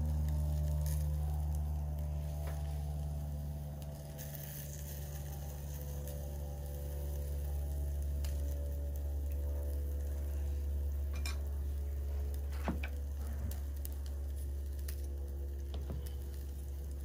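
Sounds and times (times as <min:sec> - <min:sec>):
meat sizzling and crackling: 0:00.0 - 0:17.0
steady low hum: 0:00.0 - 0:17.0.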